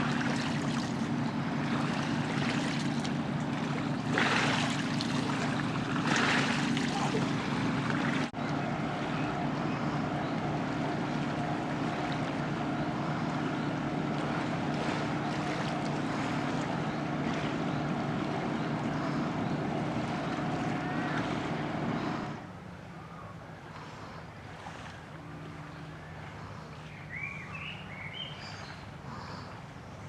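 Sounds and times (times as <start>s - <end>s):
boat engine running: 0.0s - 30.0s
wind and water noise: 0.0s - 30.0s.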